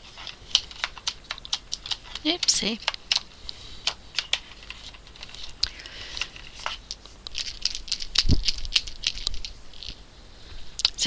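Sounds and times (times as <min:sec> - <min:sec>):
paper tissue crinkling: 0:00.0 - 0:11.0.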